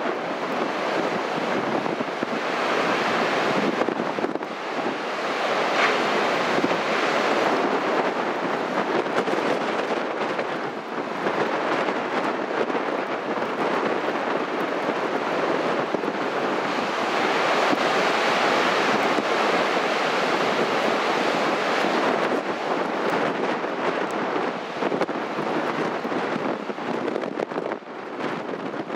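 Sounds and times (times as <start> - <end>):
heavy surf breaking: 0.0 - 28.9
wind buffeting microphone: 0.0 - 28.9.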